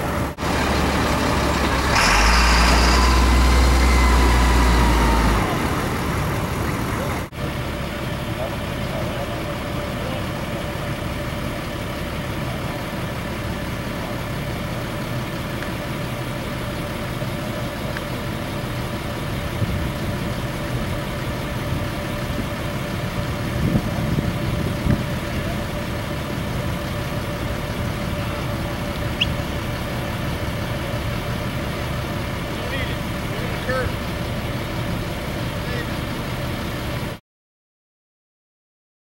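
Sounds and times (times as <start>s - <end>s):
vehicle engine idling: 0.0s - 37.2s.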